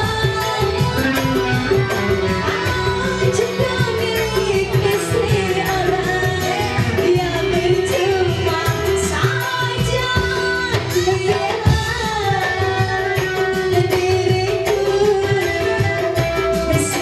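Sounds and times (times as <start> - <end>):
keyboard: 0.0 - 17.0
steady drum beat: 0.0 - 17.0
woman singing into a microphone: 0.0 - 17.0.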